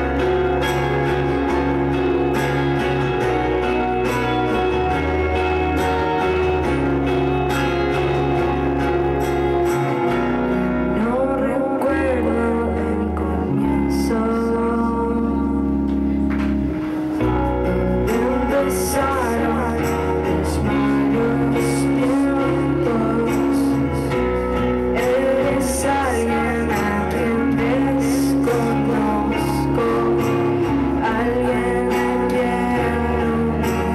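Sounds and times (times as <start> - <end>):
person singing: 0.0 - 16.5, 17.2 - 33.9
bass line: 0.0 - 33.9
strummed acoustic guitar: 0.0 - 33.9.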